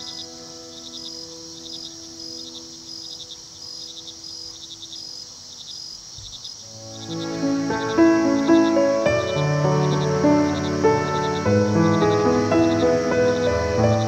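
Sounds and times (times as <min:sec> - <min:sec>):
ambient music melody: 0:00.0 - 0:05.0, 0:06.7 - 0:14.0
cricket-like chirps: 0:00.0 - 0:14.0.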